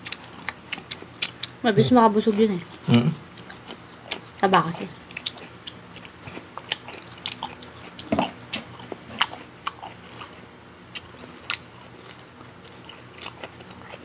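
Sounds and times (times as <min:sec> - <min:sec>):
person chewing food: 0:00.0 - 0:01.6, 0:02.2 - 0:14.0.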